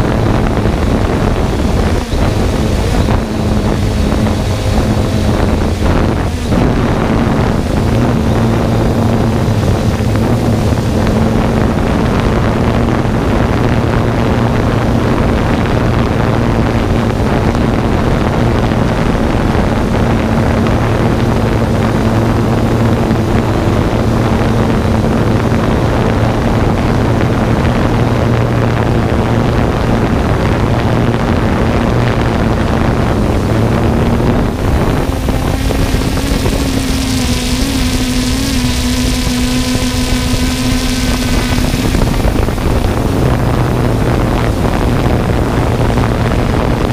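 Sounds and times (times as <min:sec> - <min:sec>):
drone propellers buzzing: 0:00.0 - 0:46.9
wind rushing over microphone: 0:00.0 - 0:46.9.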